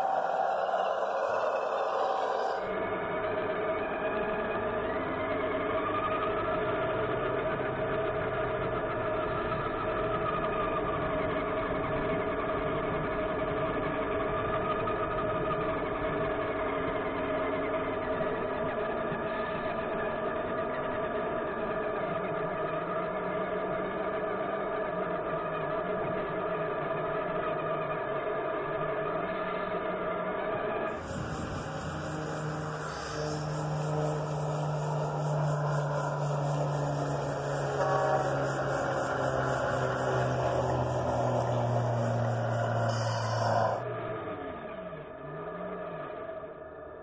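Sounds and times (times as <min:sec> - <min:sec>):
model bus motor whine: 0:00.0 - 0:47.0.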